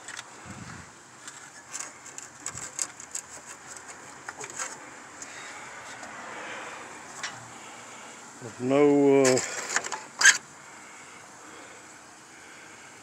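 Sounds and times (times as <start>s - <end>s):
hoses and wiring rustling: 0.0s - 10.4s.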